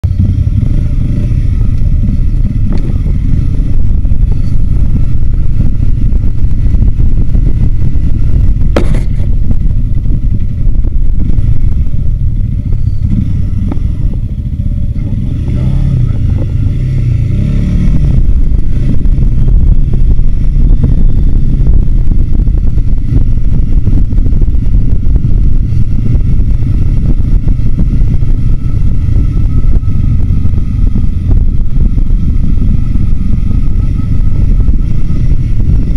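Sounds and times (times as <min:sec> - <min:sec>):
motorcycle engine running: 0:00.0 - 0:35.9
wind noise on camera: 0:00.0 - 0:35.9.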